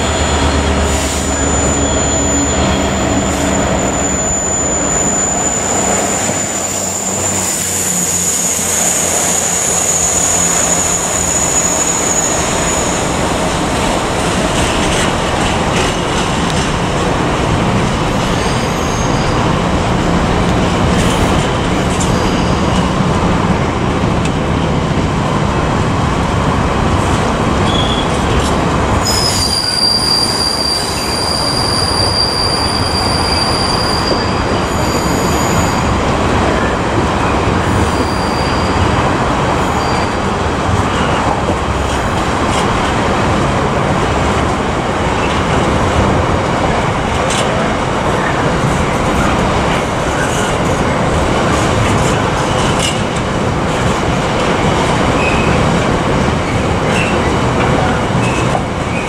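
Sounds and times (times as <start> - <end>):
diesel locomotive rumbling: 0.0 - 59.0
wagons wheel-on-rail noise: 0.0 - 59.0.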